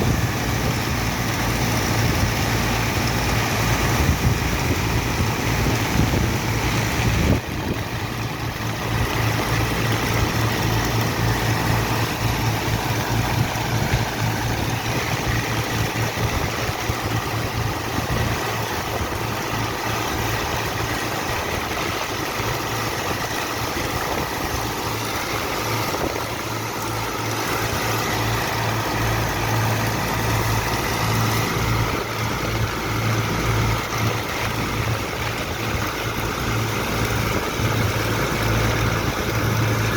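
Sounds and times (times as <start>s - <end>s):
dredging pump engine running: 0.0s - 39.9s
water wash: 0.0s - 39.9s.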